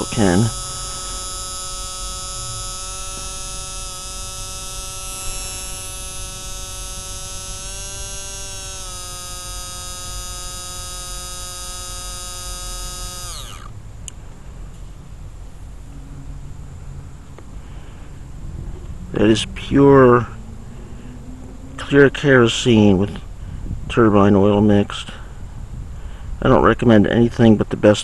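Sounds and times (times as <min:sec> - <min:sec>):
electric fuel pump humming: 0:00.0 - 0:22.6.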